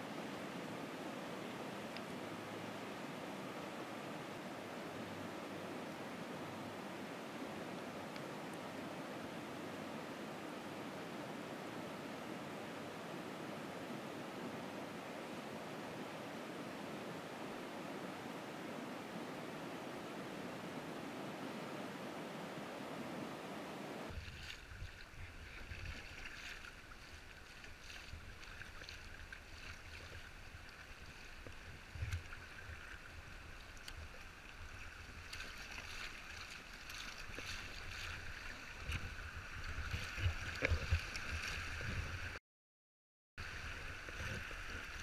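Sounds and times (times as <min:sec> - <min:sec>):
river water rushing: 0:00.0 - 0:42.4, 0:43.4 - 0:45.0.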